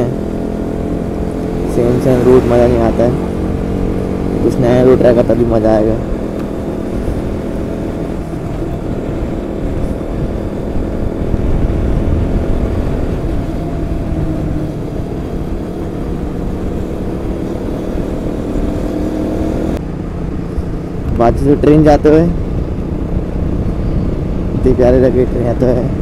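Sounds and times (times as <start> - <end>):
motorcycle engine cruising: 0.0 - 26.0
road rumble: 0.0 - 26.0
wind: 0.0 - 26.0.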